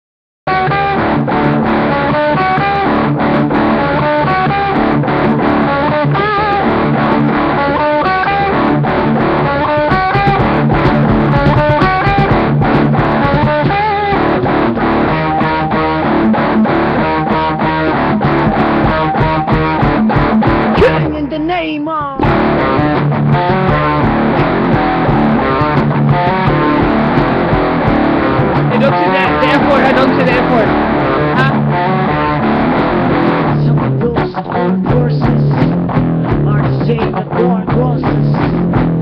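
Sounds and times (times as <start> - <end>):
bass guitar: 0.5 - 39.0
distorted electric guitar riff: 0.5 - 39.0
drums: 0.5 - 39.0.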